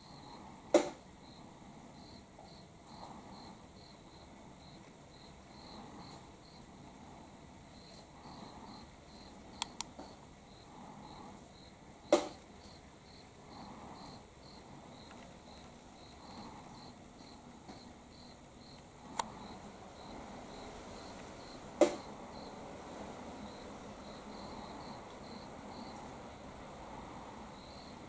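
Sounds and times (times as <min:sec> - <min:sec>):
cricket chirping: 0:00.0 - 0:28.0.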